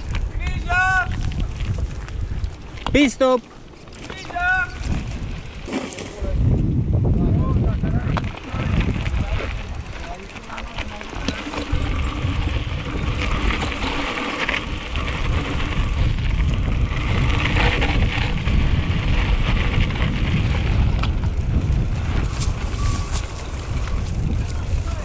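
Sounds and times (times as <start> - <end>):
bike tyres rolling and rattling: 0.0 - 25.0
wind rumbling on microphone: 0.0 - 25.0.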